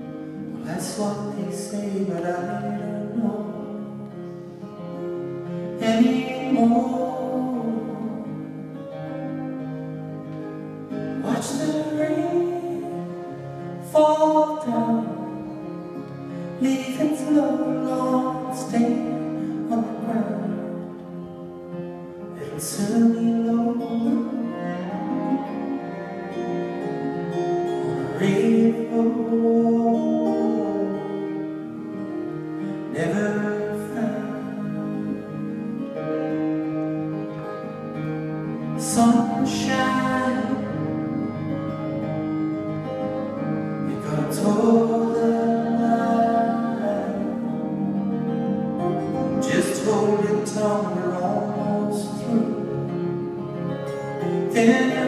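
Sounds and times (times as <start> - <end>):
person singing: 0.0 - 9.4, 10.9 - 21.3, 22.2 - 37.5, 38.6 - 55.0
accordion: 0.0 - 55.0
cello: 0.0 - 55.0
strummed acoustic guitars: 0.0 - 55.0.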